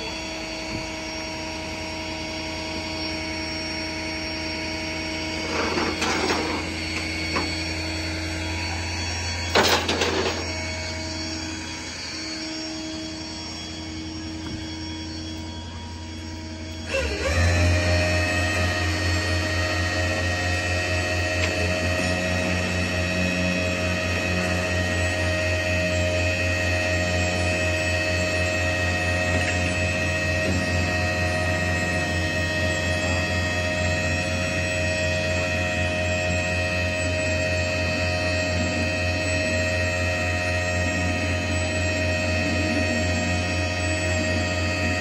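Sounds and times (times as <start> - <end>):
engine running with low hum: 0.0 - 45.0
steady whining tones: 0.0 - 45.0.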